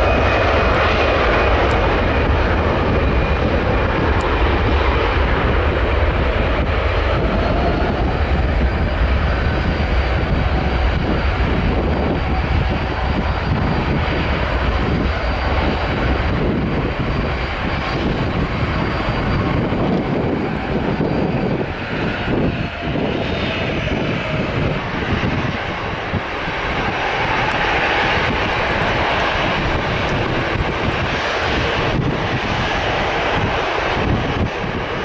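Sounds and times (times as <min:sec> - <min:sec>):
airliner engines rushing: 0:00.0 - 0:35.0.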